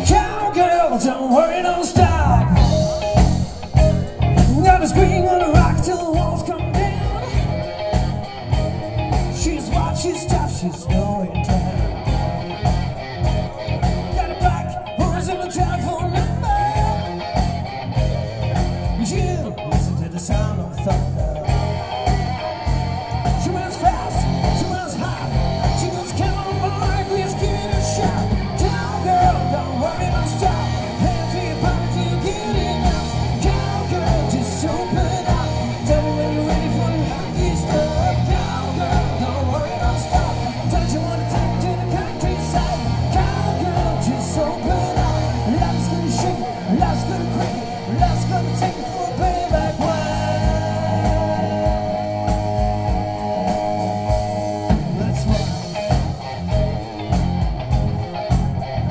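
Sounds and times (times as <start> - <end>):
live heavy rock band playing: 0.0 - 58.9.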